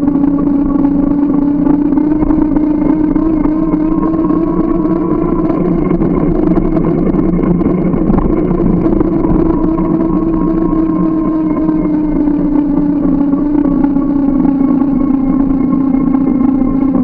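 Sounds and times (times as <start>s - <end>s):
bike riding drone: 0.0s - 17.0s.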